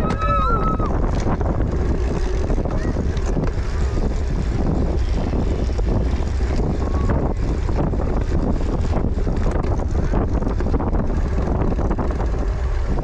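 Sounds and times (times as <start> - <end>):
bike rattling over rough ground: 0.0 - 13.0
wind rumble on microphone: 0.0 - 13.0.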